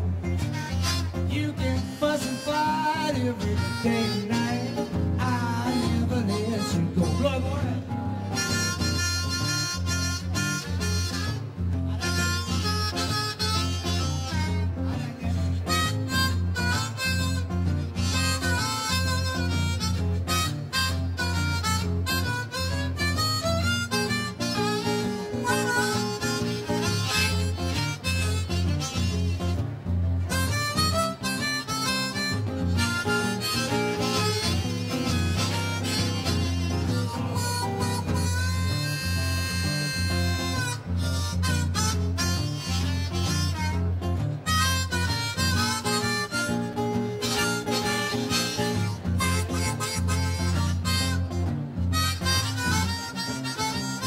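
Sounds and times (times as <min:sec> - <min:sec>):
blues harmonica: 0:00.0 - 0:54.0
guitar accompaniment: 0:00.0 - 0:54.0.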